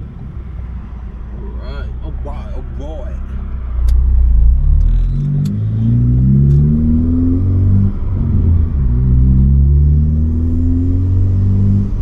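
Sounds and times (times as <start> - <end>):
car engine accelerating hard: 1.1 - 12.0.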